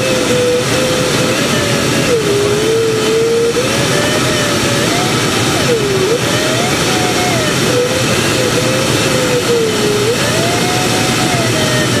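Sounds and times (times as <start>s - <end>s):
variometer tone sliding in pitch: 0.0s - 12.0s.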